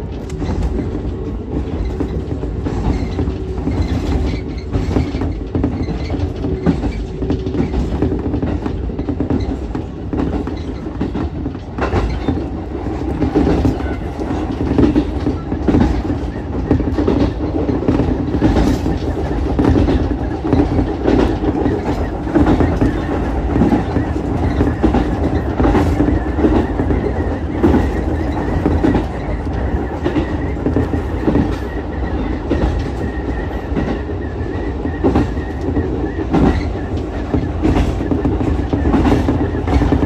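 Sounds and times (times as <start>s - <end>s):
rail joint clacks: 0.0s - 40.0s
railcar low hum: 0.0s - 40.0s
train wheels rumbling on rails: 0.0s - 40.0s.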